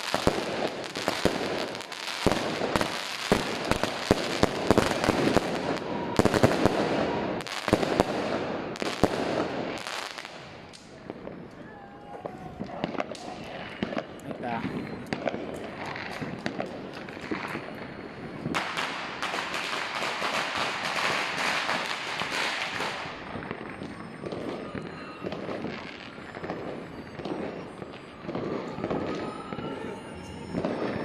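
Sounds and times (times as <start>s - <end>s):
fireworks crackling and popping: 0.0s - 31.0s.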